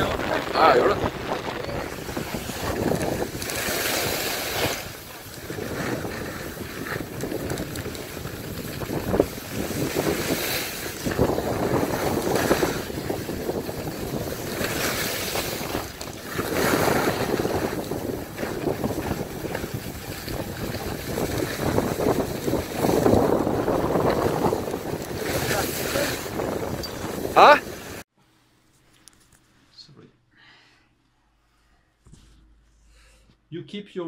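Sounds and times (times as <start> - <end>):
sliding on packed snow: 0.0 - 28.0
wind buffeting the microphone: 0.0 - 28.0.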